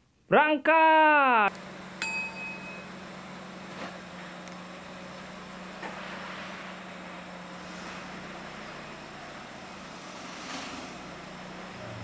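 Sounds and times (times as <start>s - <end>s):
car engine humming: 1.5s - 12.0s.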